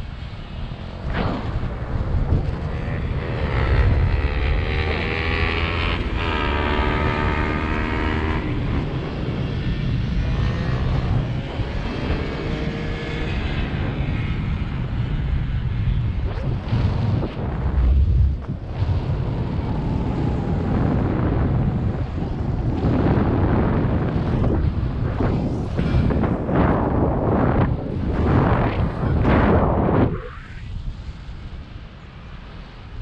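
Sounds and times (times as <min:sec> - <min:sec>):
airflow buffeting microphone: 0:00.0 - 0:33.0.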